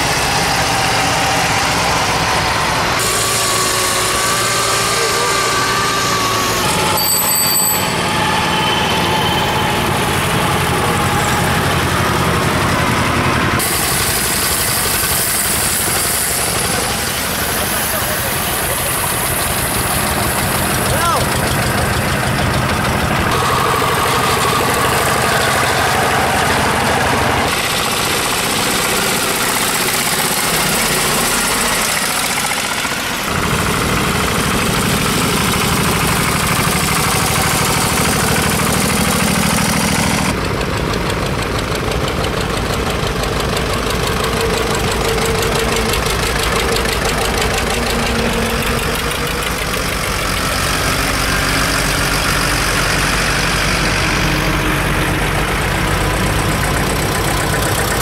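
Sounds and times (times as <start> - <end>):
tractor engines driving past: 0.0 - 58.0
truck driving past: 0.0 - 58.0.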